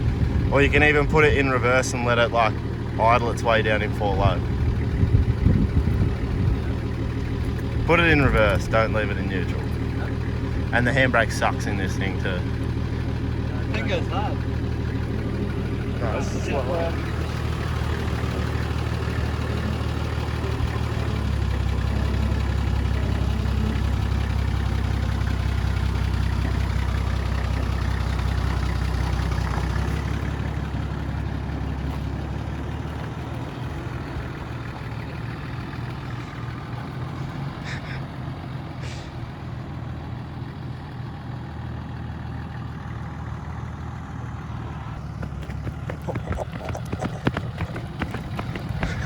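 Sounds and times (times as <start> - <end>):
engine running at low revs: 0.0 - 49.0.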